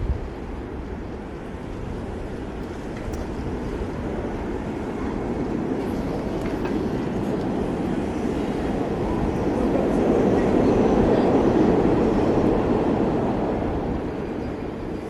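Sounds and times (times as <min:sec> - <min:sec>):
road and traffic rumble: 0:00.0 - 0:15.0
wind on microphone: 0:00.0 - 0:15.0.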